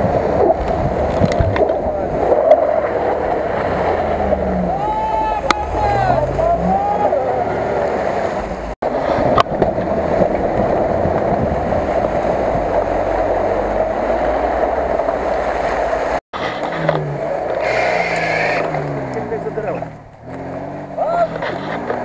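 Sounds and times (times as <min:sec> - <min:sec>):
off-road engines running in mud: 0:00.0 - 0:22.0
engine revving: 0:00.9 - 0:22.0.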